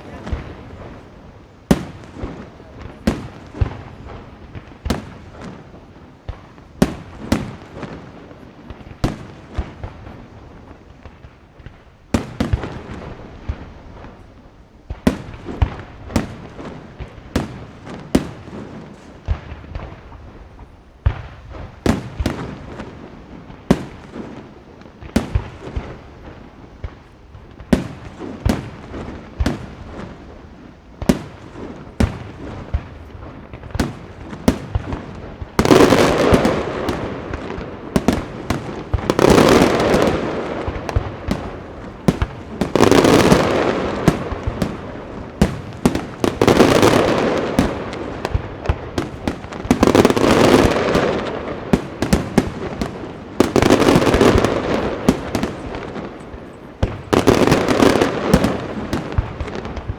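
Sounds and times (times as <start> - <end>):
dense crackling firework bursts: 0.0 - 59.9.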